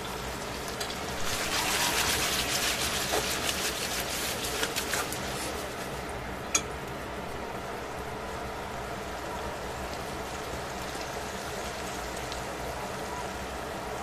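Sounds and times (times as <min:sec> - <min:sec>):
chicken sizzling in a frying pan: 0:00.0 - 0:06.1, 0:08.0 - 0:14.0.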